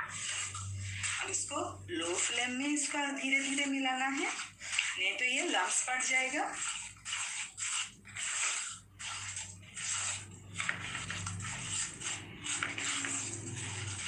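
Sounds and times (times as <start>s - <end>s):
wooden spatula scraping a pan: 0.0s - 14.0s.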